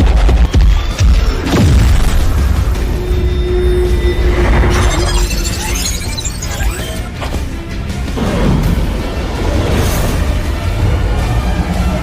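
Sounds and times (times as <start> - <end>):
dramatic soundtrack music: 0.0 - 12.0.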